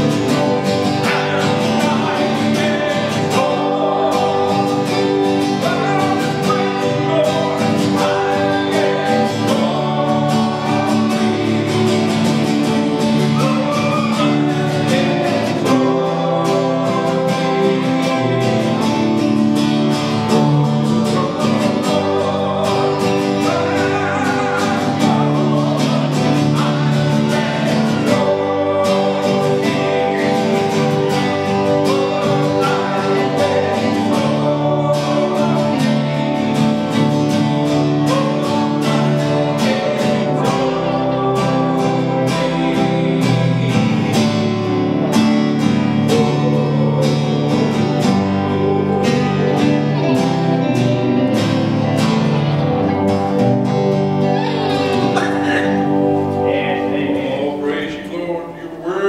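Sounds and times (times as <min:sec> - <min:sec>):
bass guitar: 0:00.0 - 0:58.8
acoustic guitar: 0:00.0 - 0:59.0
person singing: 0:00.0 - 0:59.0.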